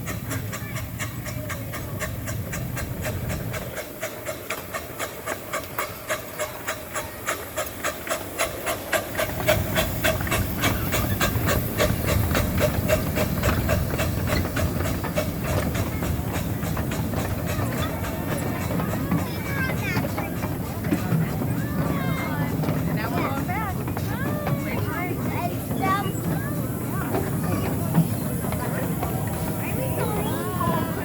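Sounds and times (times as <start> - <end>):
low train rumble: 0.0 - 31.0
train wheels clicking over rail joints: 0.0 - 31.0.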